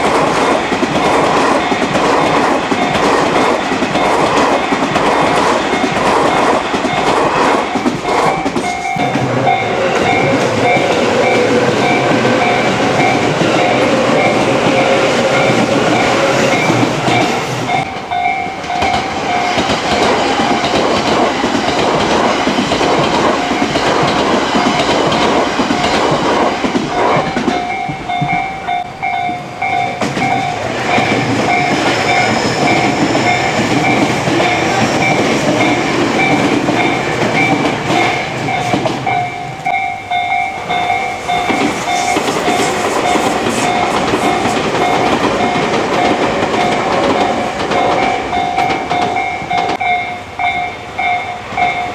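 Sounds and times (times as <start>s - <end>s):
level crossing alarm ringing: 0.0s - 51.9s
train wheels clattering over rail joints: 0.0s - 51.9s.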